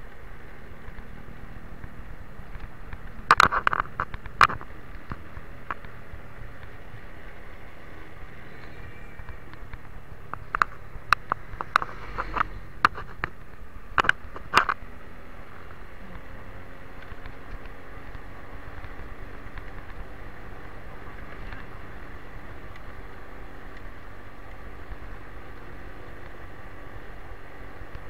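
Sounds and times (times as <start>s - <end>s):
motorcycle road and wind noise: 0.0s - 28.0s.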